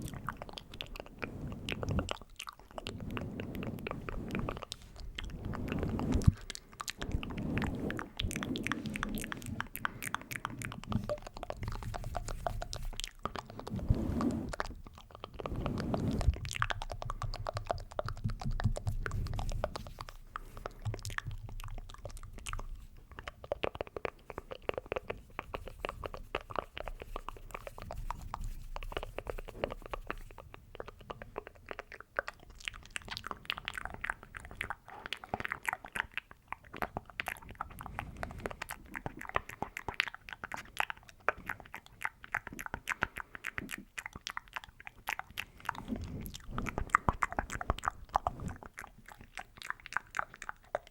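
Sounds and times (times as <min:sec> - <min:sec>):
wet mouth clicks and smacks: 0:00.0 - 0:13.8, 0:14.5 - 0:50.9.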